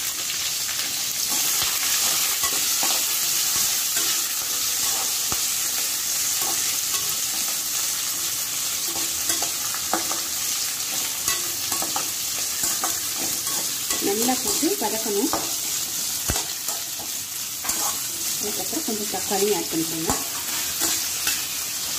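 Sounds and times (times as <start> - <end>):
vegetables sizzling in hot oil: 0.0 - 21.9
metal spatula scraping pan: 1.3 - 8.2, 8.8 - 18.4, 20.0 - 21.6.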